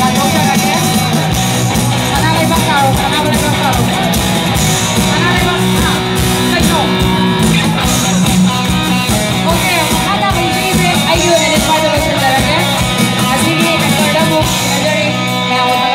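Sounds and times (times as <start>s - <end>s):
rock band playing: 0.0s - 15.9s.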